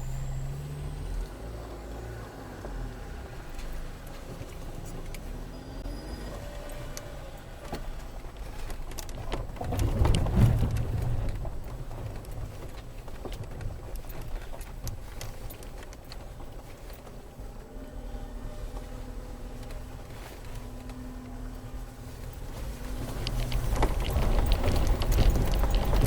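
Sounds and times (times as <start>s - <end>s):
low engine and cabin rumble: 0.0s - 26.0s.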